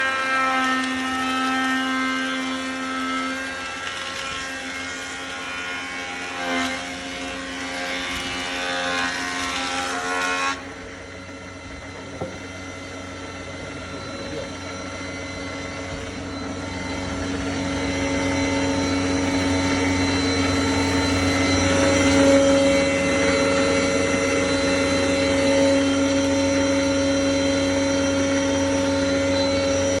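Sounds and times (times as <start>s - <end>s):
planer machine whining: 0.0s - 30.0s.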